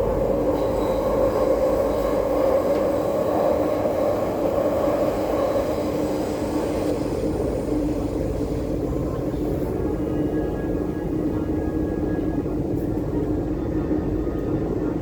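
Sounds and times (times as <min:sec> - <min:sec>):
metro train wheels rumbling: 0:00.0 - 0:15.0.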